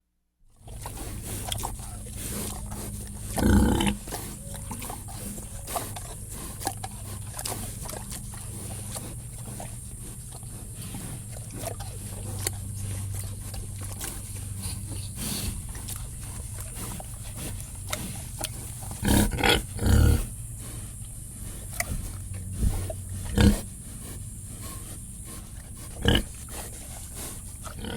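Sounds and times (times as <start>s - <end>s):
pigs grunting: 0.6s - 27.9s.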